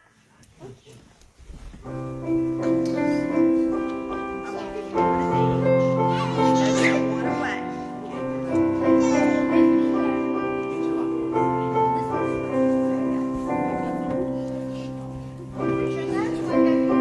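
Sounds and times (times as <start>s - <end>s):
piano playing slow chords: 1.9s - 17.0s.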